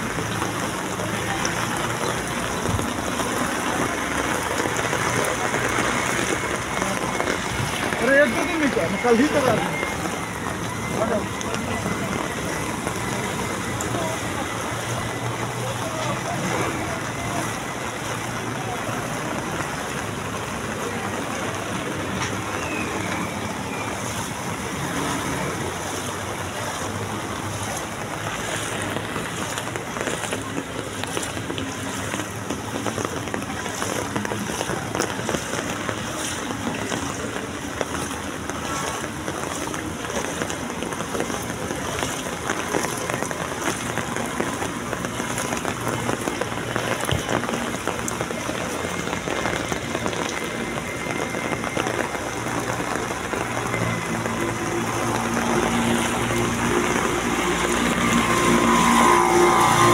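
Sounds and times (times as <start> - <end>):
heavy rain on standing water: 0.0 - 59.9.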